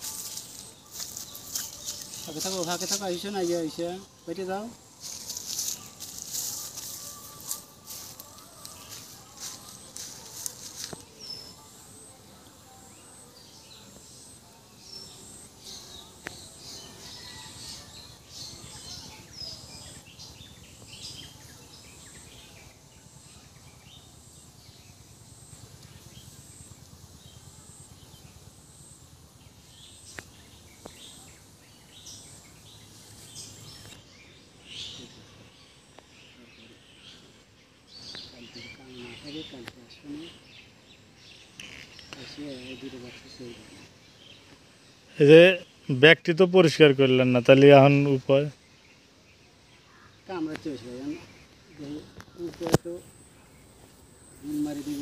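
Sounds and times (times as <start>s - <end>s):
birds chirping: 0.0s - 55.0s
honeybees humming: 0.0s - 55.0s.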